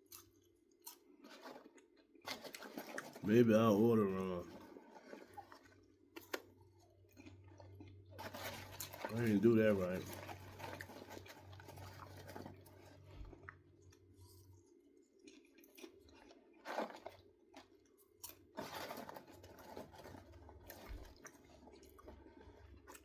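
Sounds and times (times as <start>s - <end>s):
person chewing popcorn: 0.0s - 23.0s.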